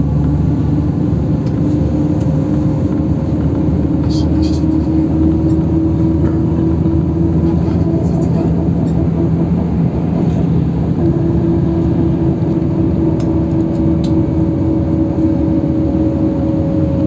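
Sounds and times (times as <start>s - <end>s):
bus engine and tyre rumble: 0.0s - 17.0s
steady whine: 0.0s - 17.0s.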